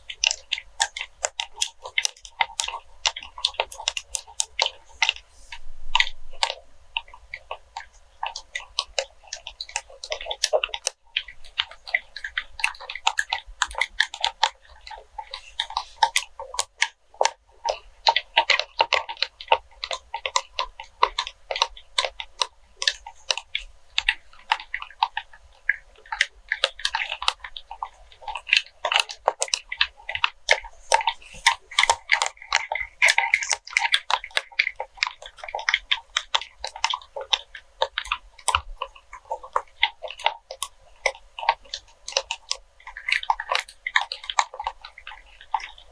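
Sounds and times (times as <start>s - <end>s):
tapping and scratching on wax: 0.0s - 45.9s.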